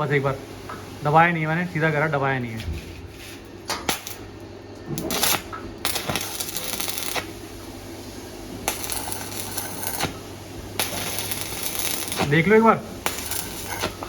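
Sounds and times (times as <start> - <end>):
steady low hum: 0.0 - 14.0
arc welder crackling: 2.0 - 14.0.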